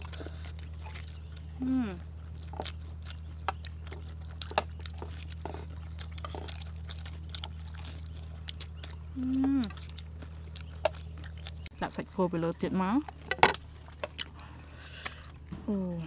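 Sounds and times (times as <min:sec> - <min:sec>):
people chewing crispy food: 0:00.0 - 0:16.0
steady low hum: 0:00.0 - 0:16.0.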